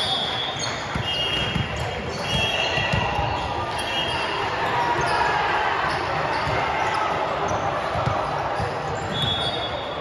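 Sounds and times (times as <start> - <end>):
sneakers squeaking on gym floor: 0.0 - 10.0.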